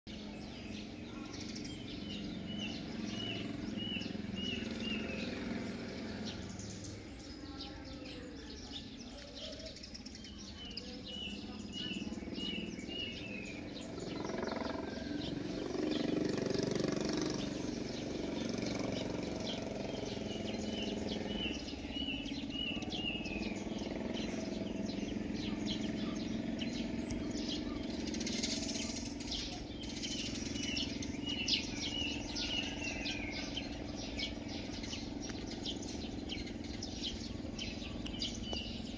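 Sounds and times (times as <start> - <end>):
birds chirping: 0.1 - 38.9.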